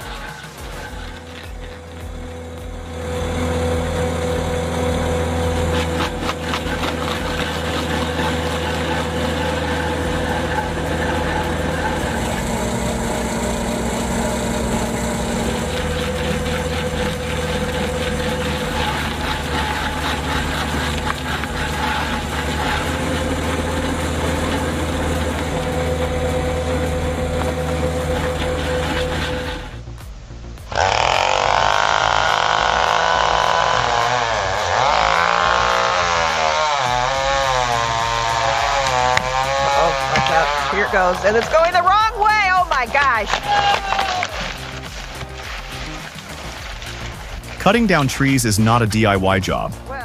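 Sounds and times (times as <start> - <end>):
heavy engine running: 0.0 - 50.0.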